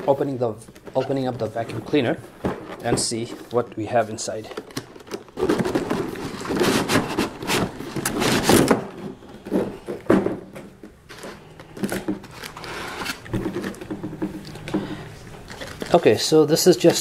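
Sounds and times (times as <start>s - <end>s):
packaging rustling: 0.0s - 10.1s, 10.8s - 17.0s.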